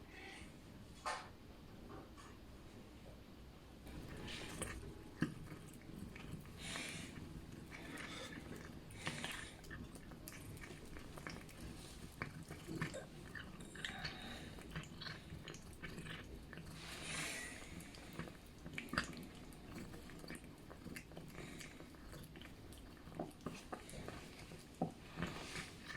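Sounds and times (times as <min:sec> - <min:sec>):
cat chewing wet food: 0:03.9 - 0:25.9.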